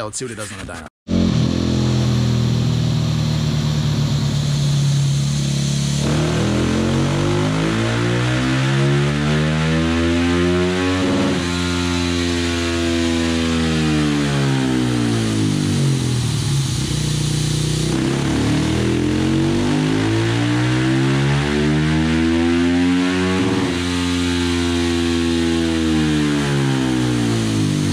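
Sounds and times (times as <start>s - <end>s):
motorcycle engine revving: 1.1s - 27.9s.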